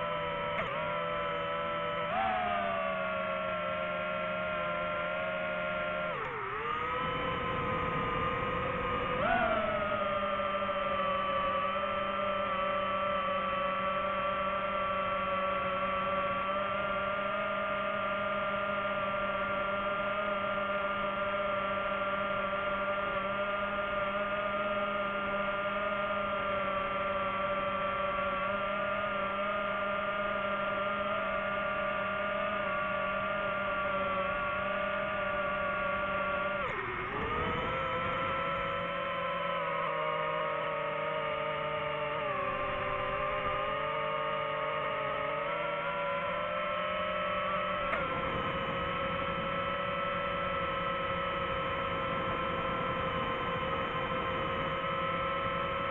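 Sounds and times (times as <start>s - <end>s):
drone propellers whining: 0.0s - 55.9s.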